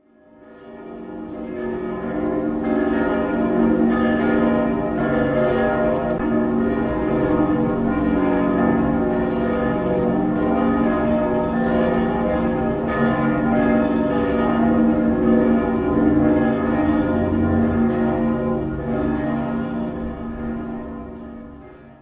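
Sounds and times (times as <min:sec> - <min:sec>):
bells ringing: 0:00.4 - 0:21.9.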